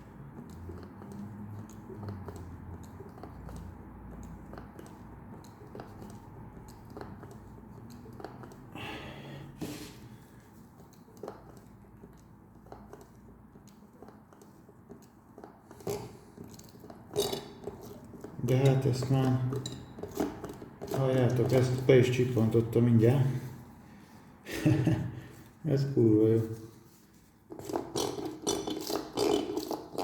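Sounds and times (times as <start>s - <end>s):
oil pump squelching and clicking: 0.0s - 24.4s, 26.4s - 30.0s.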